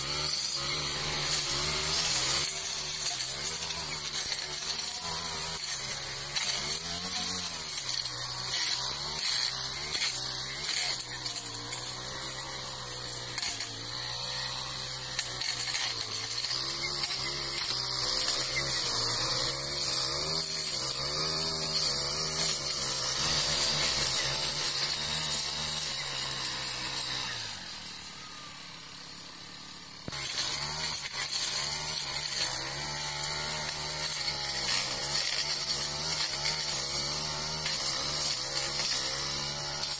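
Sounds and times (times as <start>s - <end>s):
brush cutter engine running: 0.0s - 39.9s
metal blade cutting brush: 0.0s - 39.9s.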